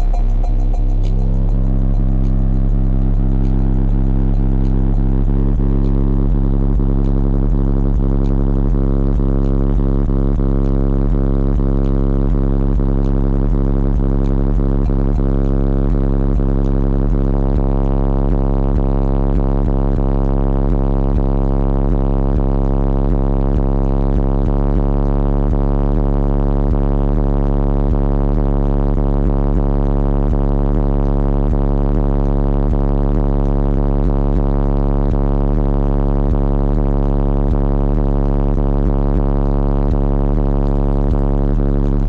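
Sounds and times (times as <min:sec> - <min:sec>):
deep subwoofer bass tone: 0:00.0 - 0:42.0.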